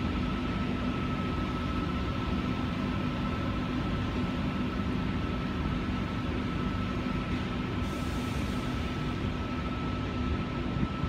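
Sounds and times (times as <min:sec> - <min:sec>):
fan-like hiss: 0:00.0 - 0:11.0
high machine whine: 0:00.0 - 0:11.0
train equipment low hum: 0:00.0 - 0:11.0.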